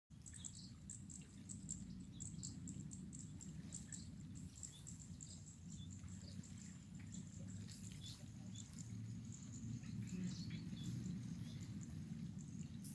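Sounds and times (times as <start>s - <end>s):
low steady rumble: 0.1s - 12.9s.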